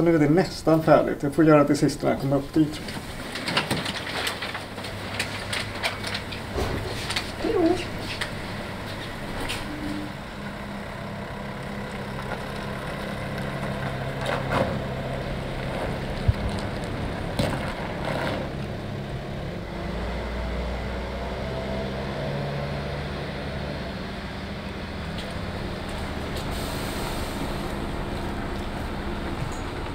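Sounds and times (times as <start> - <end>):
van engine rumbling: 0.0 - 29.9.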